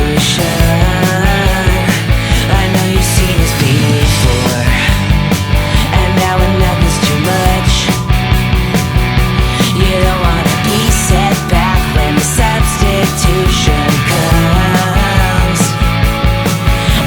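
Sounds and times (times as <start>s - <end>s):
driving drum beat: 0.0s - 17.0s
rock music with distorted guitars: 0.0s - 17.0s.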